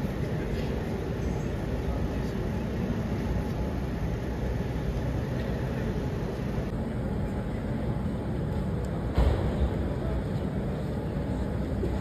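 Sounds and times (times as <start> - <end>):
crowd hubbub in a hall: 0.0 - 12.0.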